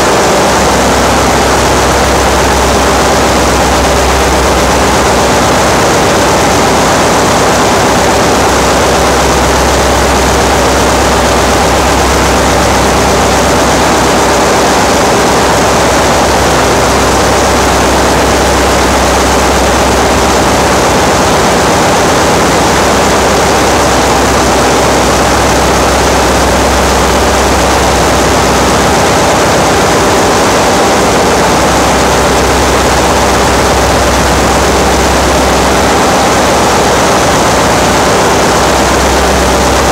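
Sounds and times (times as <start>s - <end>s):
engine room machinery din: 0.0s - 39.9s.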